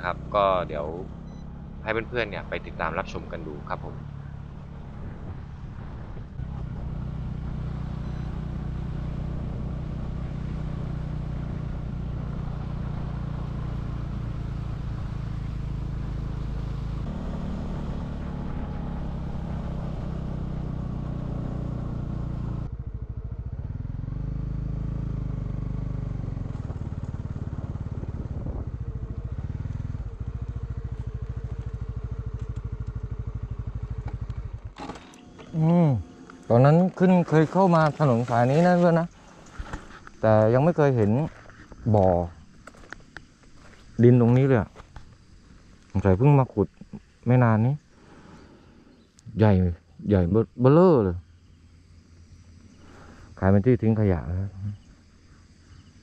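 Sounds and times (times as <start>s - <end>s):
motorcycle engine running: 0.0s - 47.2s, 50.2s - 56.0s.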